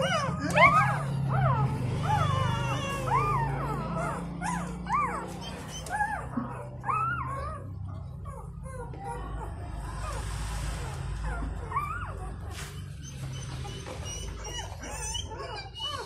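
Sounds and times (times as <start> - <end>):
newborn puppies squealing: 0.0 - 16.0.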